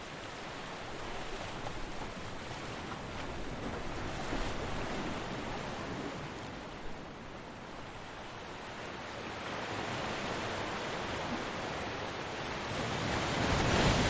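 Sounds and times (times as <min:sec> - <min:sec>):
waves breaking on a beach: 0:00.0 - 0:14.0.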